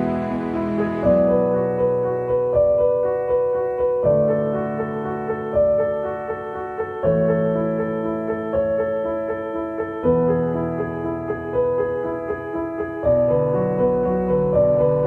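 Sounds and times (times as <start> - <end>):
slow piano-like keyboard chords: 0.0 - 15.0.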